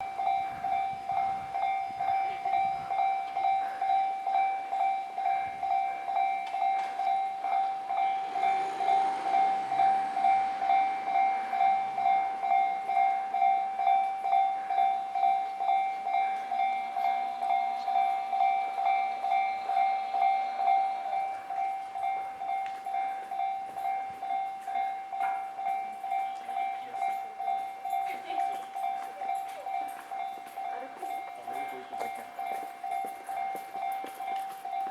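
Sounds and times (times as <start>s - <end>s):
crossing warning bell ringing: 0.0s - 34.9s
train passing: 0.0s - 34.9s.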